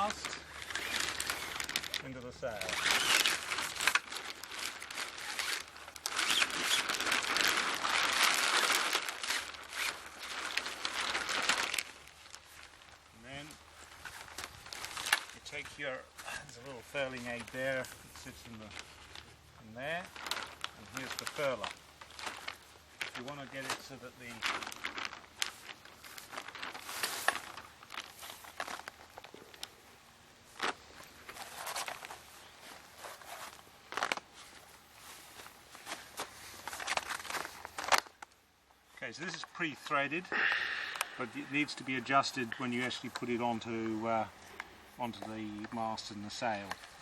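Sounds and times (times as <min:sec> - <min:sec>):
sail cloth rustling and crinkling: 0:00.0 - 0:47.0.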